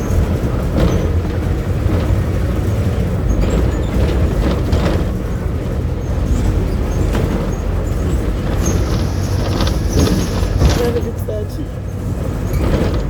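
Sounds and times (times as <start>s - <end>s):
bus body rattles and clicks: 0.0s - 13.0s
bus engine drone from inside: 0.0s - 13.0s.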